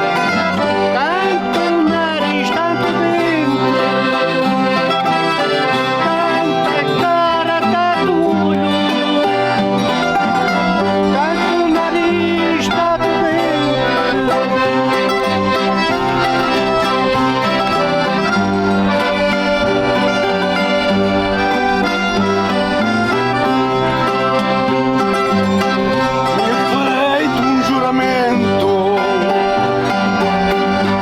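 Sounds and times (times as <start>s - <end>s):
accordion folk tune: 0.0s - 31.0s
plucked string instruments: 0.0s - 31.0s.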